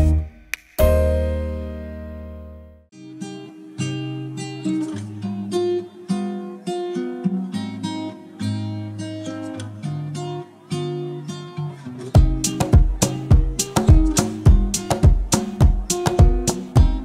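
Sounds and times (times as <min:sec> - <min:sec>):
picked acoustic guitar: 0:02.9 - 0:17.0.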